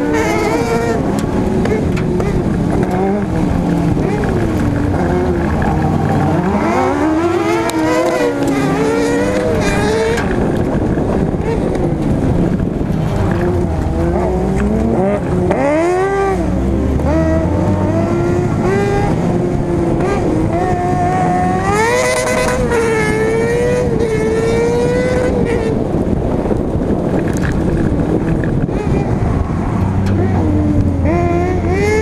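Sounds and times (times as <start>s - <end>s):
car engine revving hard: 0.0s - 25.7s.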